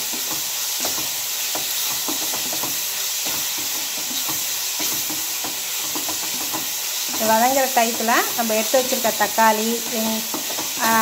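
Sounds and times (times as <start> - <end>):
onions sizzling in oil: 0.0 - 11.0
spatula scraping and tapping pan: 0.0 - 11.0.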